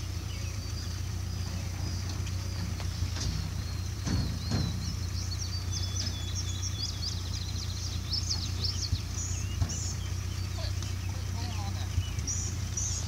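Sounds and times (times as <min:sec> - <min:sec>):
songbird singing chirps and trills: 0:00.0 - 0:13.0
steady low hum: 0:00.0 - 0:13.0.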